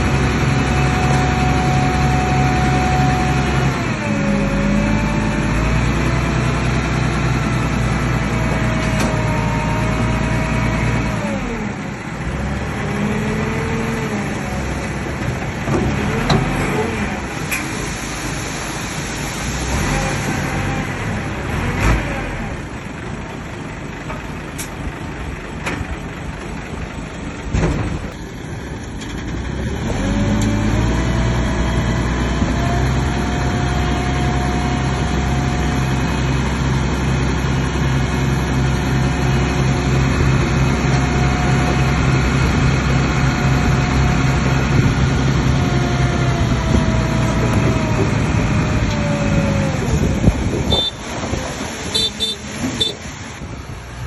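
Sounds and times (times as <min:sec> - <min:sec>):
bulldozer diesel engine whining: 0:00.0 - 0:54.0.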